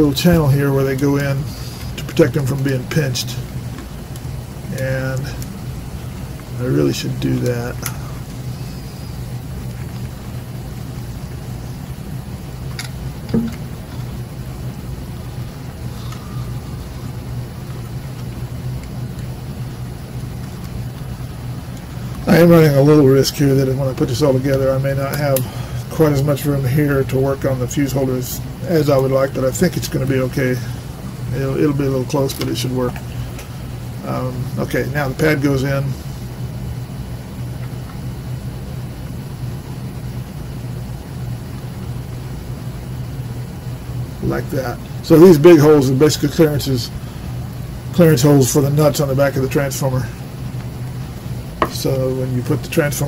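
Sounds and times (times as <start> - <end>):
machine humming: 0.0 - 53.0.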